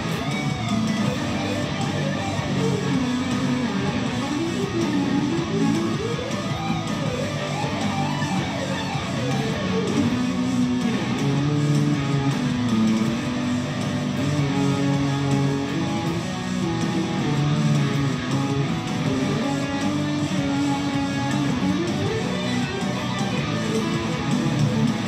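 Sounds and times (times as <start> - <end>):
electric guitar lead line: 0.0 - 25.0.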